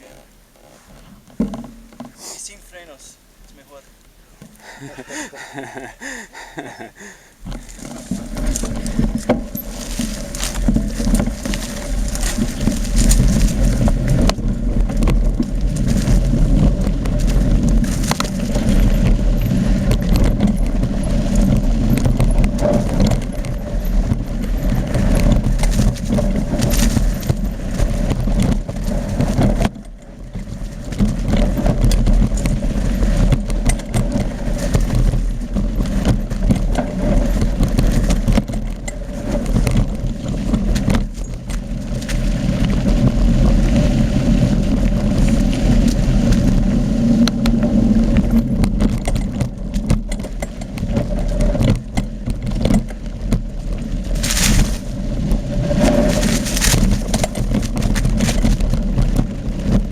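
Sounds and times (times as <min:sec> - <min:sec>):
bike rattling over bumps: 0:00.0 - 0:02.2, 0:04.2 - 0:59.9
wind rumbling on microphone: 0:04.6 - 0:59.9.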